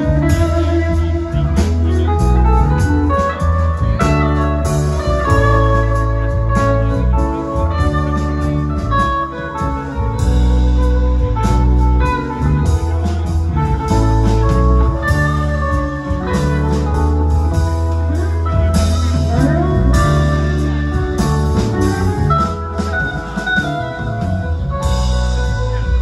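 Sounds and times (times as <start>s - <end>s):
bass line: 0.0s - 26.0s
drum kit: 0.0s - 26.0s
electric guitar lead: 0.0s - 26.0s.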